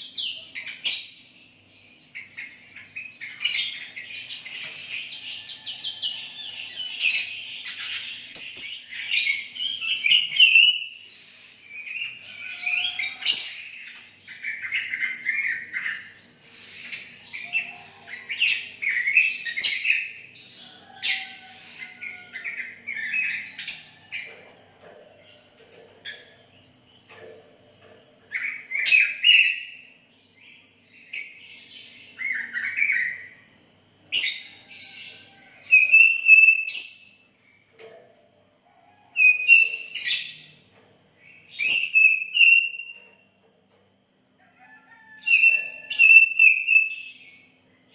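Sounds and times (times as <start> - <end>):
bulbul singing: 0.0 - 38.3, 39.1 - 43.3, 45.2 - 47.9.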